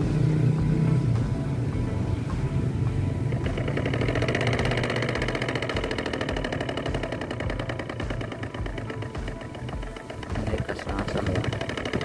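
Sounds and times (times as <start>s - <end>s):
model diesel engine chugging: 0.0s - 12.0s.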